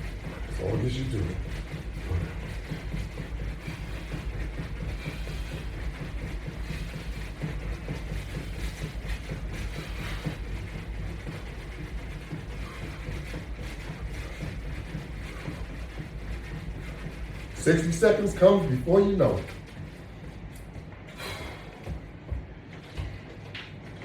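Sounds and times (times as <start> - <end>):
feet jogging in place: 0.0 - 24.0.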